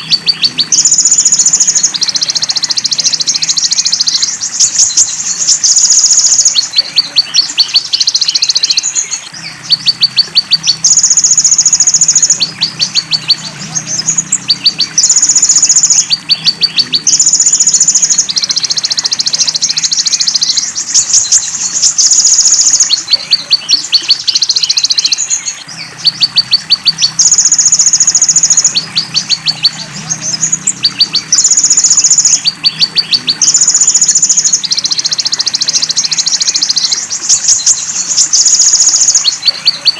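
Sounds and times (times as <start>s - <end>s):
buzzy bird notes: 0.0s - 39.9s
high-pitched rapid bird ticks: 0.0s - 39.9s.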